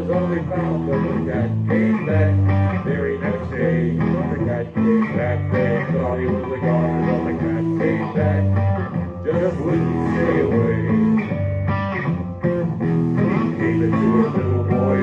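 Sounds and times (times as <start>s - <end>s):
live blues-rock band: 0.0s - 15.0s.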